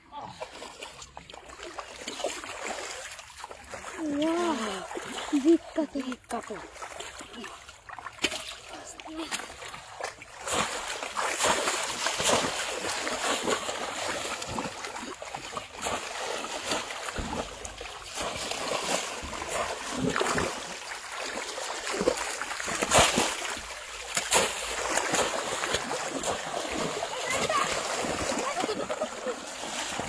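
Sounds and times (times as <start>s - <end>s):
shallow water splashing and sloshing: 0.0s - 30.0s.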